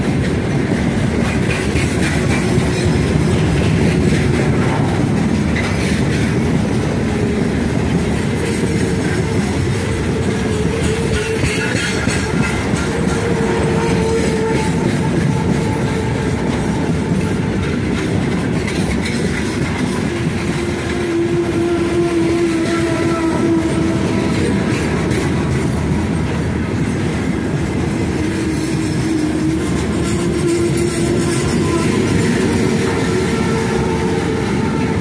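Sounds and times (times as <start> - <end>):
freight train wheels rumbling: 0.0 - 35.0
train wheel whine: 0.0 - 35.0.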